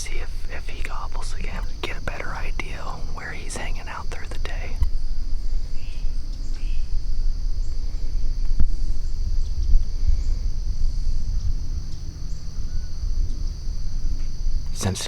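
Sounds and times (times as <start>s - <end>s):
faint bird chirps: 0.0s - 15.0s
insect chorus trilling: 0.0s - 15.0s
low rumble: 0.0s - 15.0s.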